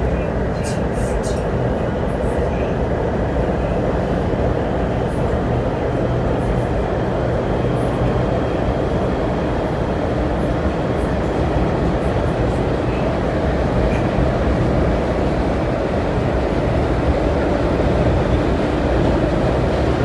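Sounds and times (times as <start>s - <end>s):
train cabin rumble: 0.0s - 20.0s.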